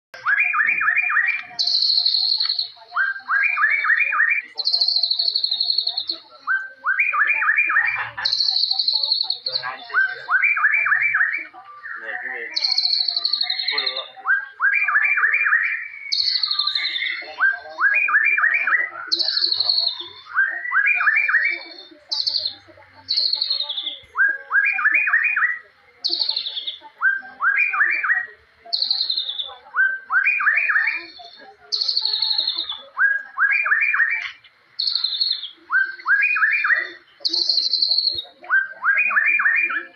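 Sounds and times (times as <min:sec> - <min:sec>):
bird singing whistled phrases: 0:00.2 - 0:39.9.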